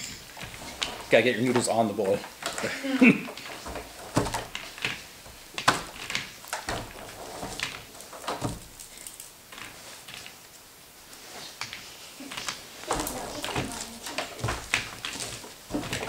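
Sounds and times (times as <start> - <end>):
plastic sticks clicking: 0.0 - 16.0
soft rustling: 0.0 - 16.0.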